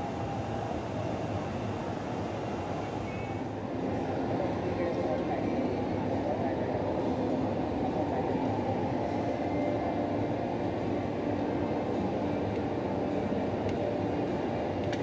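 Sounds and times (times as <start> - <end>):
crowd murmur: 0.0 - 15.0.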